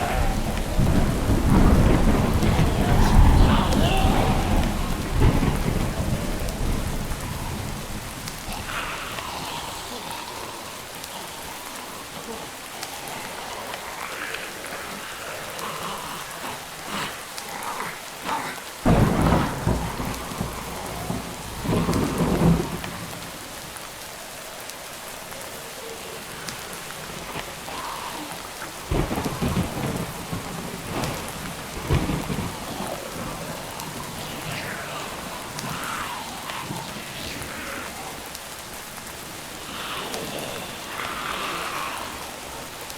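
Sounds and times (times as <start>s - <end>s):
thunder rumbling: 0.0s - 17.9s, 18.8s - 42.9s
rain falling: 0.0s - 42.9s.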